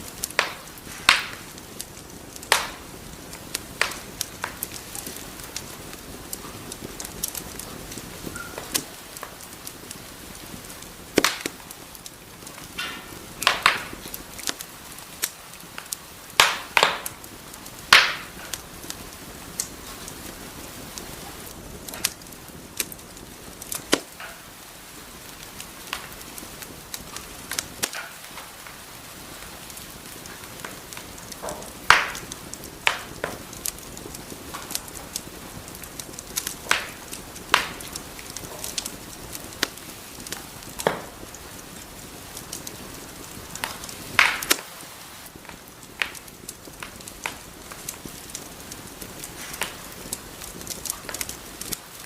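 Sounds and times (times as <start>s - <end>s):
sharp fire pops: 0.0s - 52.0s
soft steady hiss: 0.0s - 52.0s
wood fire crackling: 0.0s - 52.0s.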